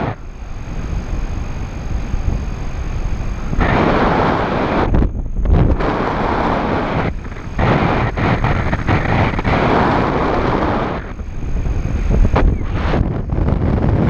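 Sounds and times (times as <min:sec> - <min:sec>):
wind buffeting camera microphone: 0:00.0 - 0:14.0.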